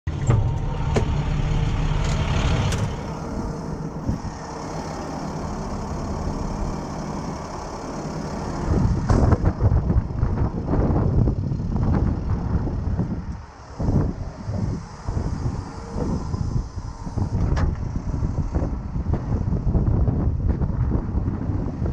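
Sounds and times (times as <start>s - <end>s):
truck engine running: 0.1s - 21.9s
wind on microphone: 2.3s - 4.5s, 5.3s - 21.9s.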